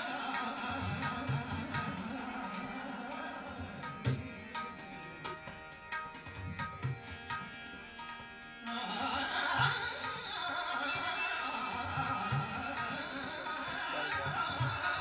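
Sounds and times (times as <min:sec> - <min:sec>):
tabla treble drum strokes: 0:00.0 - 0:15.0.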